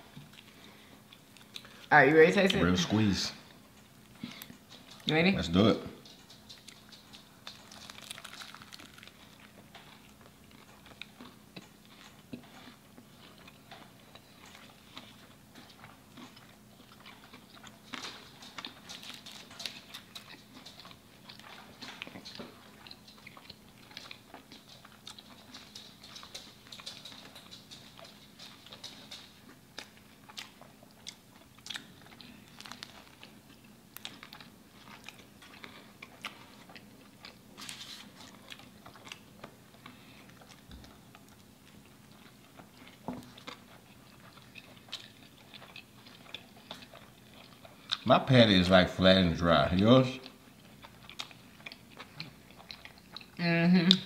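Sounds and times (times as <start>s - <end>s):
chewing crunches: 0.0s - 2.6s, 6.0s - 54.0s.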